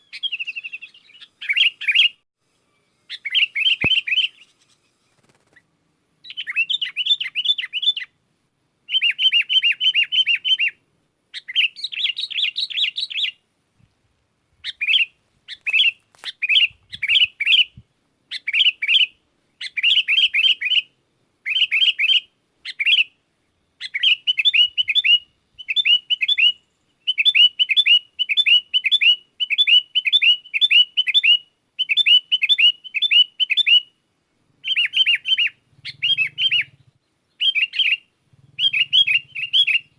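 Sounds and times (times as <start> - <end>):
bulbul singing whistled notes: 0.0 - 2.2, 2.8 - 5.5, 6.2 - 8.2, 8.9 - 13.4, 14.6 - 34.0, 34.6 - 39.9.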